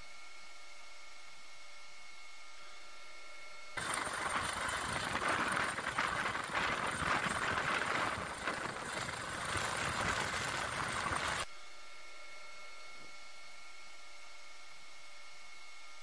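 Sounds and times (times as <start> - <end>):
helicopter rotor and engine noise: 0.2 - 15.9.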